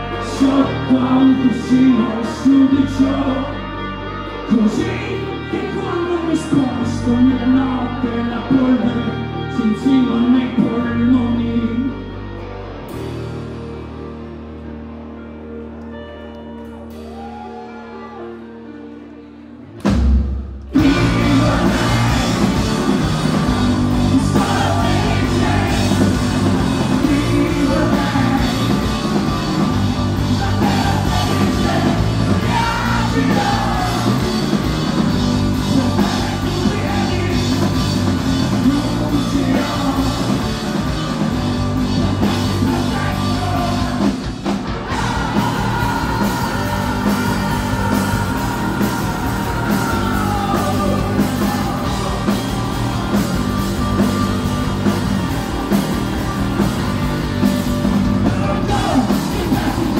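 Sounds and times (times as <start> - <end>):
rock band playing loud: 0.0 - 59.9.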